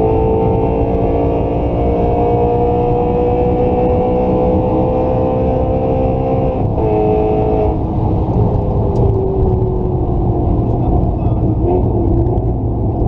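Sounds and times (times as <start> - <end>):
car engine running hard: 0.0 - 13.0
road and wind rumble: 0.0 - 13.0.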